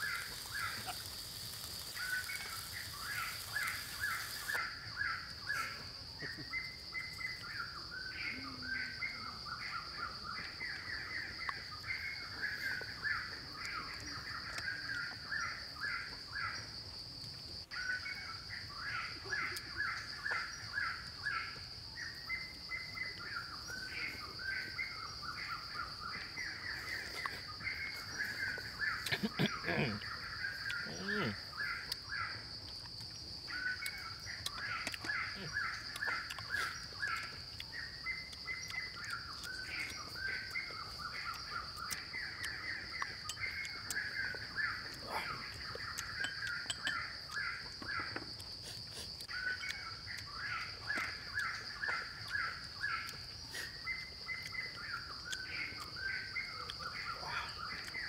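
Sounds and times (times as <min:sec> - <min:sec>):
rapid bird chirps: 0:00.0 - 0:16.8, 0:17.6 - 0:58.0
insect drone: 0:00.0 - 0:58.0.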